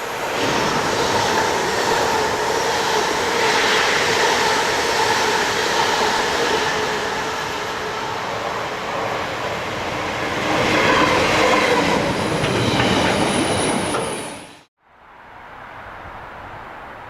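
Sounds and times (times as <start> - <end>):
train wheels clattering on rails: 0.5 - 14.7.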